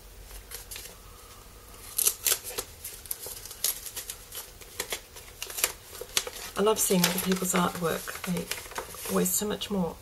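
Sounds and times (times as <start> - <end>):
paper envelope crinkling: 0.2 - 9.5.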